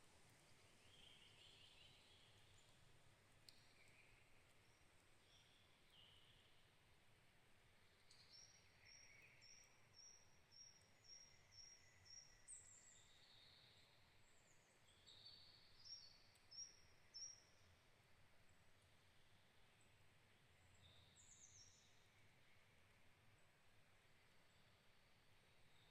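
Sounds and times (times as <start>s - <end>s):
faint birdsong: 0.0s - 25.9s
faint steady hiss: 0.0s - 25.9s.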